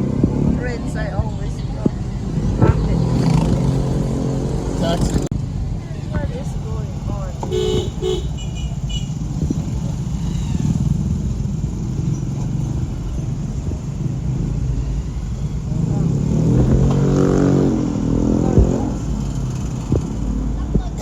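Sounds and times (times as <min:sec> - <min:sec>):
motorcycle engine: 0:00.0 - 0:21.0
vehicle road rumble: 0:00.0 - 0:21.0.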